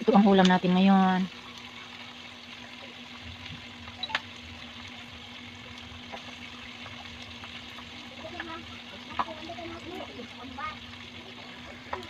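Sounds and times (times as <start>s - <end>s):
faint steady hum: 0.0s - 12.0s
meat deep-frying in oil: 0.0s - 12.0s.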